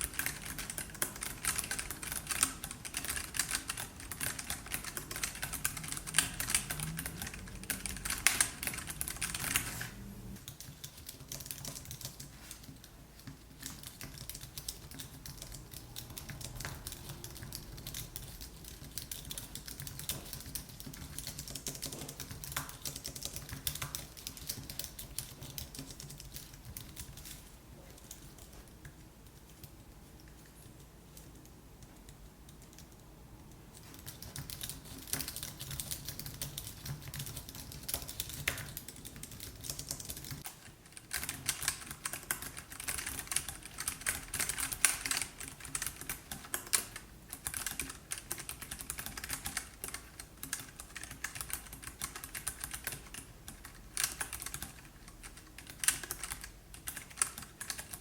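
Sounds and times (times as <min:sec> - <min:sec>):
typing on computer keyboard: 0:00.0 - 0:33.1, 0:33.8 - 0:58.0.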